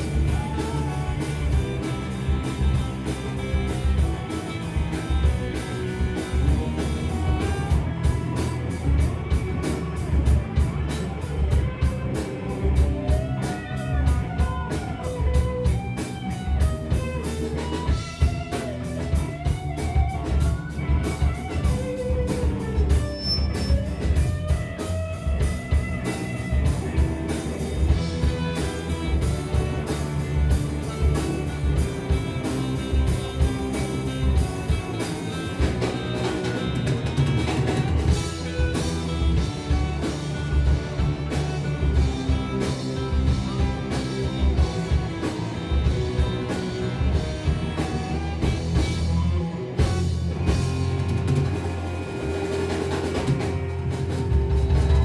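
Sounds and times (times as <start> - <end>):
trombone band playing metal: 0.0 - 19.5, 20.2 - 55.0
fast driving drums: 0.0 - 55.0
sliding melodic lead line: 0.0 - 55.0.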